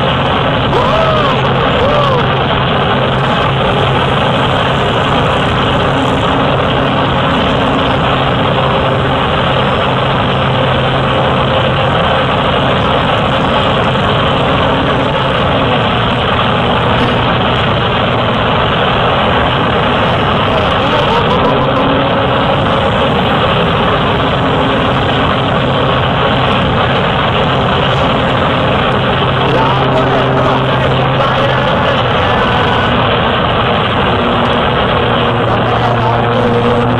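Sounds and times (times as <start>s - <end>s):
light aircraft engine drone: 0.0s - 36.9s.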